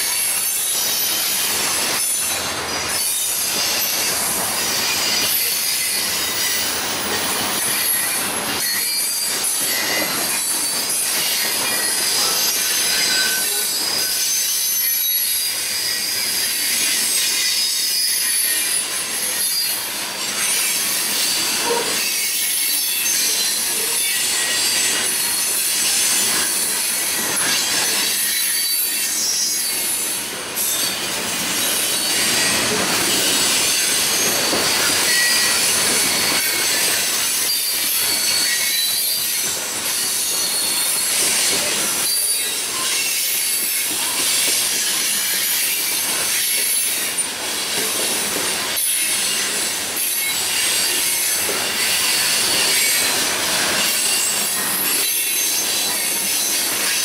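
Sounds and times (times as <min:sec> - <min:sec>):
train wheels squealing on rails: 0:00.0 - 0:57.0.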